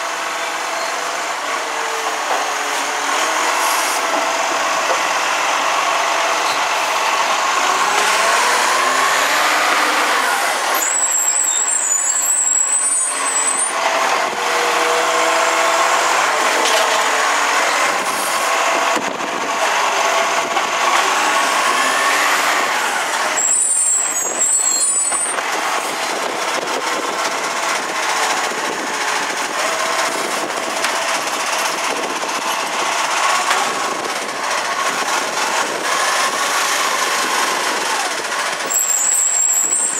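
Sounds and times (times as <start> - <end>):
garbage truck engine: 0.0 - 39.9
hydraulic whines: 0.4 - 27.4, 31.5 - 39.9.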